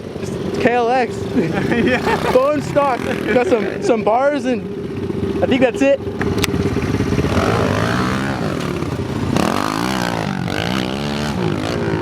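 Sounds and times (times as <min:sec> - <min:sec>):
dirt bike engine revving: 0:00.2 - 0:12.0.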